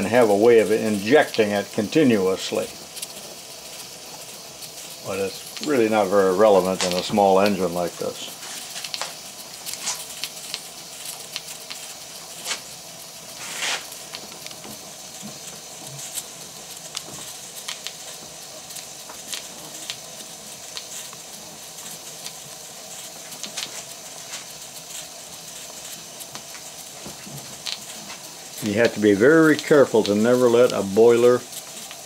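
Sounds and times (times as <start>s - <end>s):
steam engine hissing and spitting: 0.0s - 32.0s.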